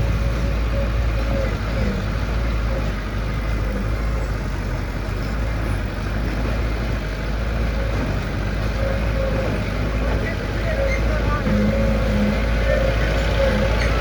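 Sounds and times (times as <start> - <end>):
heavy diesel machinery rumbling: 0.0 - 14.0.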